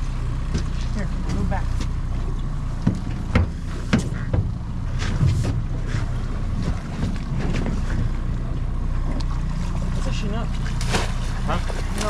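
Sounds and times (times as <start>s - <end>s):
boat motor running: 0.0s - 12.0s
fish splashing: 0.6s - 12.0s.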